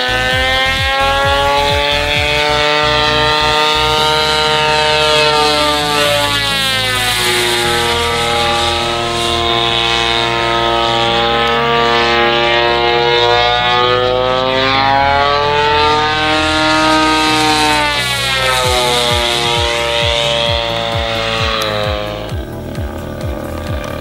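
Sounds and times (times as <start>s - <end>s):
model plane engine and propeller: 0.0s - 24.0s.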